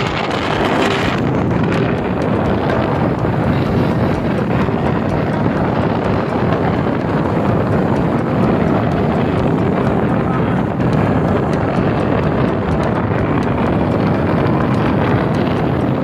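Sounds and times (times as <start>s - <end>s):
boat engine running: 0.0s - 16.0s
wind buffeting microphone: 0.0s - 16.0s.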